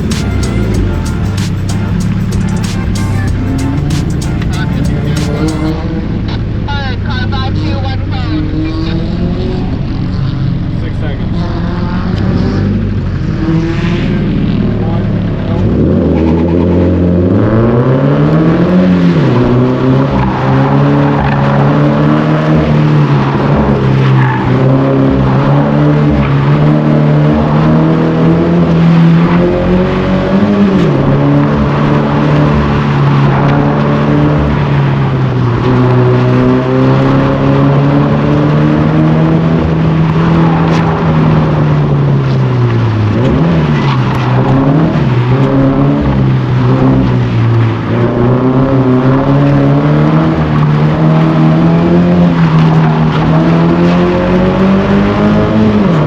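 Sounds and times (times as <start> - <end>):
car engine at high revs: 0.0 - 6.7, 7.5 - 56.0.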